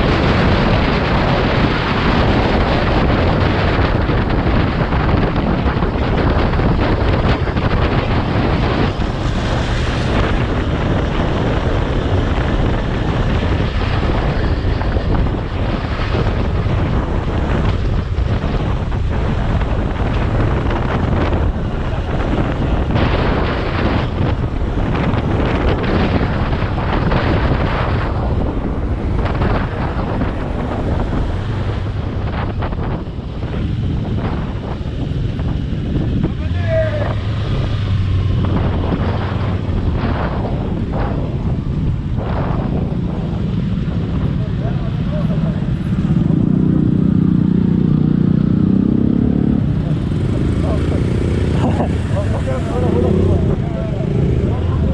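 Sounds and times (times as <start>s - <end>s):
motorcycle engine: 0.0s - 54.9s
road noise: 0.0s - 54.9s
wind buffeting microphone: 0.0s - 54.9s.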